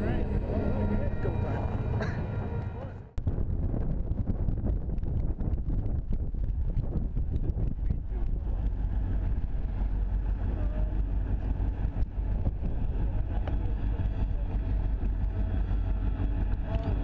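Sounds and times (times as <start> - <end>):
diesel locomotives rumbling: 0.0 - 17.0
wind buffeting microphone: 0.0 - 17.0.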